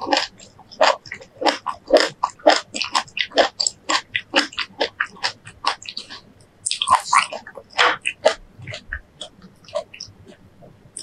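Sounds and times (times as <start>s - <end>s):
chewing fresh fruit: 0.0s - 10.4s.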